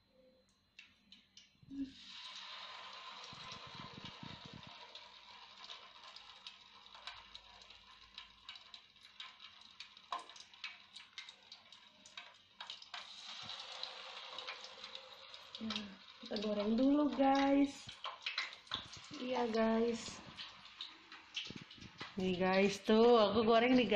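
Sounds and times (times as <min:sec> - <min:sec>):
fritters frying in hot oil: 0:01.7 - 0:23.9.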